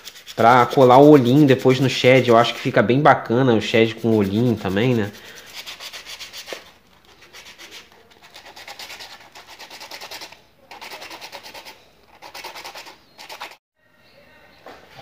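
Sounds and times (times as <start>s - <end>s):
sandpaper scraping metal: 0.0s - 2.8s, 3.6s - 13.6s.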